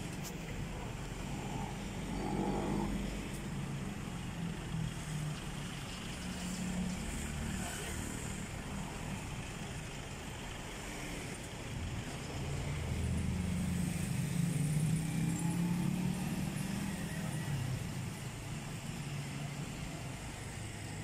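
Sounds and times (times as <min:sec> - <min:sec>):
passing vehicle engine hum: 0:00.0 - 0:21.0.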